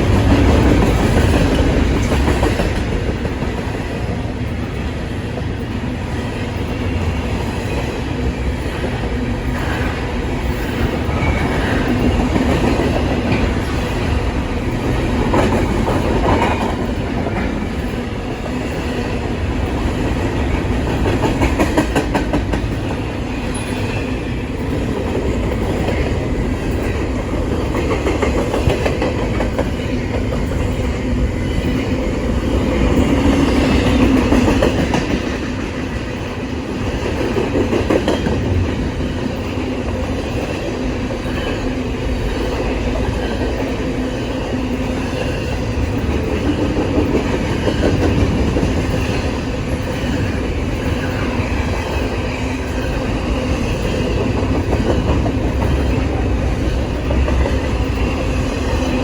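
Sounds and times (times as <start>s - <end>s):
train rumble: 0.0s - 59.0s
train wheels clicking over joints: 0.0s - 59.0s.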